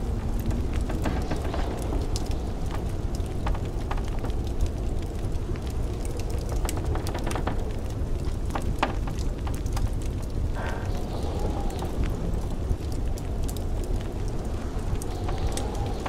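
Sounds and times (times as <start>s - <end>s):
blizzard wind rumble: 0.0s - 16.0s
wood fire crackling: 0.0s - 16.0s.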